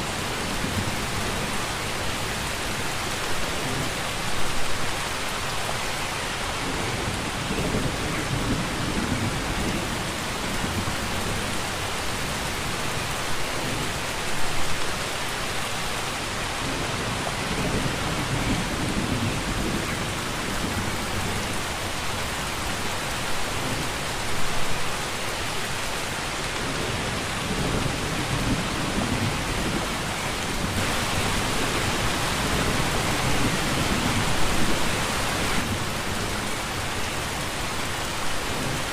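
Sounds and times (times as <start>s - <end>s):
dense rainfall: 0.0s - 38.9s.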